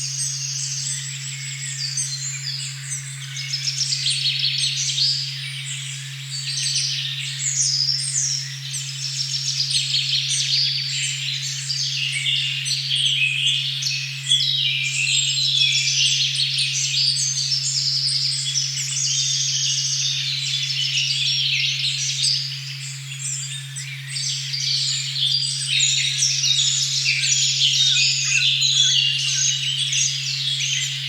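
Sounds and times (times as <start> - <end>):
birds singing: 0.0 - 31.0.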